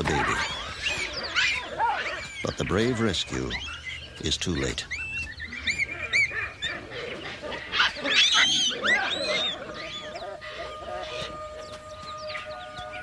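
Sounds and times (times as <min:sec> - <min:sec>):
high yelping animal calls: 0:00.0 - 0:13.0.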